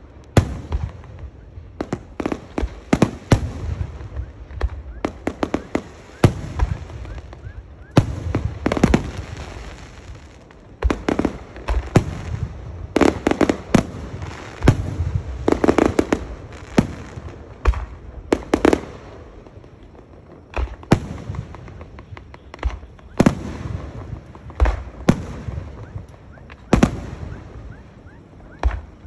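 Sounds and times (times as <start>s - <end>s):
fireworks bangs and crackles: 0.0s - 29.0s
fireworks rumble: 0.0s - 29.0s.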